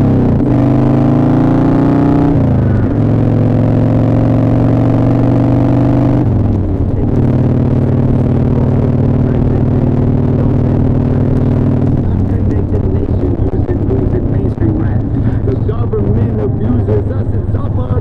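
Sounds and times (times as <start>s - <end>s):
motorcycle engine shifting gears: 0.0s - 18.0s.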